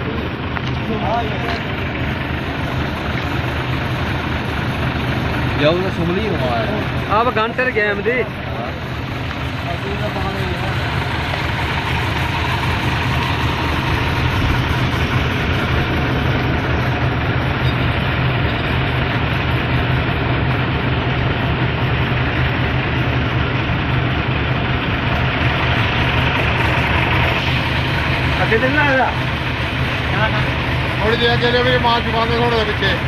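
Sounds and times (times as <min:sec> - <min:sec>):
diesel truck engine humming: 0:00.0 - 0:33.0.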